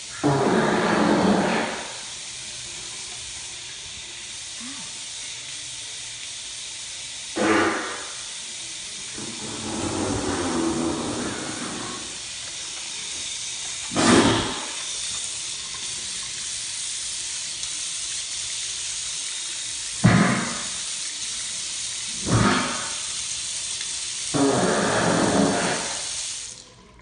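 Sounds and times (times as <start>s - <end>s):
running water hissing: 0.0s - 26.9s.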